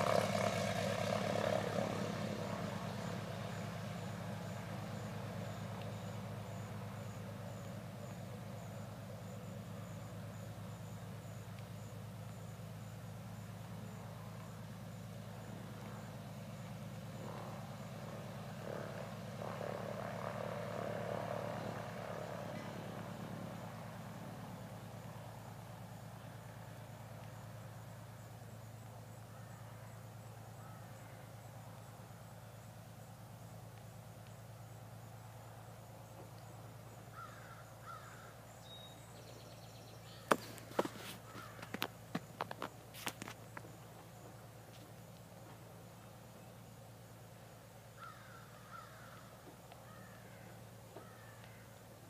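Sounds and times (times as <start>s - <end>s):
small motorboat engine droning: 0.0s - 52.0s.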